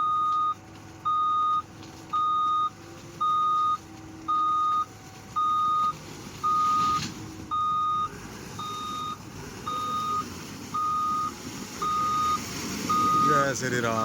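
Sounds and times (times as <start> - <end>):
reversing alarm beeping: 0.0 - 10.2, 10.8 - 13.5
faint diesel engine: 0.0 - 14.0.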